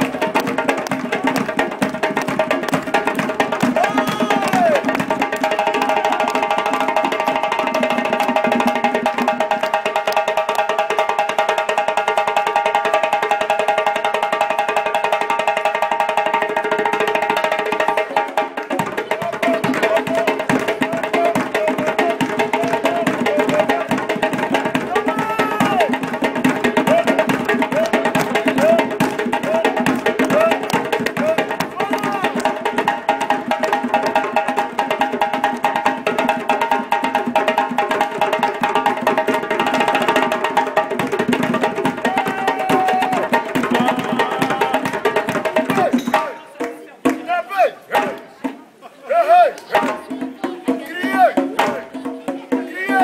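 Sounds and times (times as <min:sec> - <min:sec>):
hand drums played fast: 0:00.0 - 0:53.0.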